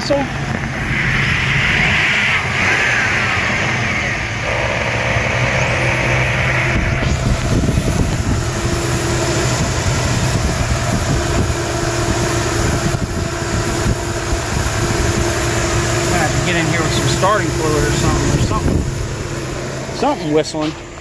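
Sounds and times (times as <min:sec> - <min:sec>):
pickup engine idling: 0:00.0 - 0:21.0
engine whistle: 0:00.8 - 0:18.6.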